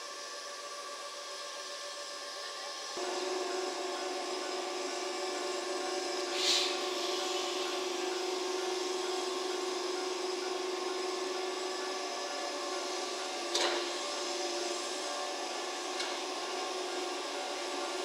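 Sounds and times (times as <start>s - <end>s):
electric railcar hum: 0.0s - 18.0s.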